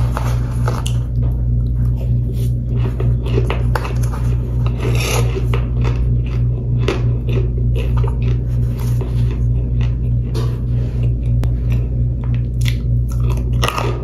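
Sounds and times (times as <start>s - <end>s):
close-up crunching and chewing: 0.0s - 14.0s
steady low hum: 0.0s - 14.0s.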